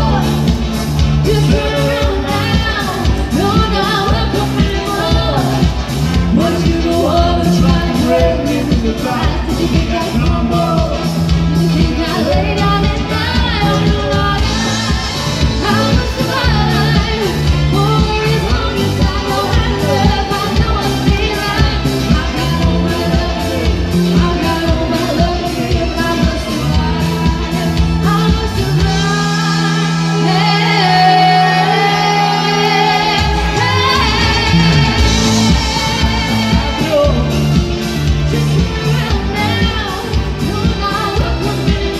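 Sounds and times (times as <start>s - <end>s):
amplified instrumental backing: 0.0s - 41.9s
drums: 0.0s - 41.9s
music with steady beat: 0.0s - 41.9s
woman singing into microphone: 0.0s - 41.9s.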